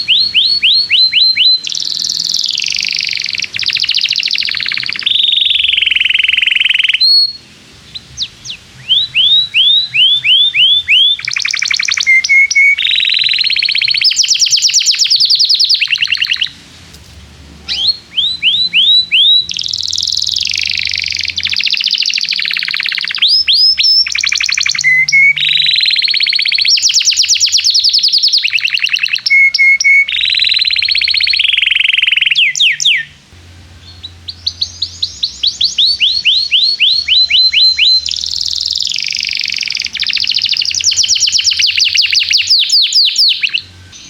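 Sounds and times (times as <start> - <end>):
canary singing trills: 0.0 - 16.6, 17.4 - 44.0.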